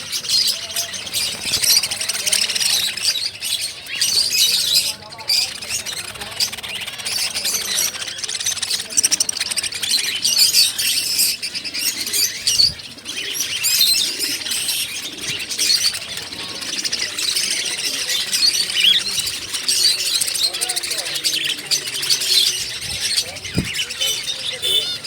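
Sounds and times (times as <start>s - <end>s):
caged birds chirping: 0.0s - 25.0s.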